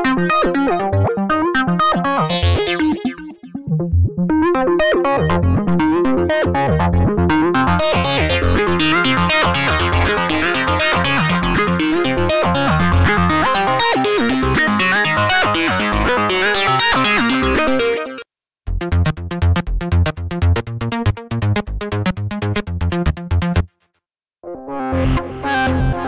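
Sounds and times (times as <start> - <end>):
sequenced synth notes: 0.0 - 23.7.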